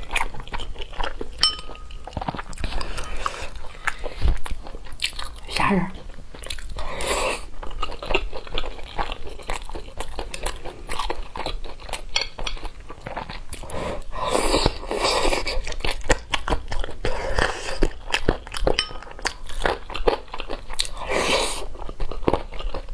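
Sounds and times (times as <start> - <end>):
close-miked eating and chewing: 0.0 - 22.9.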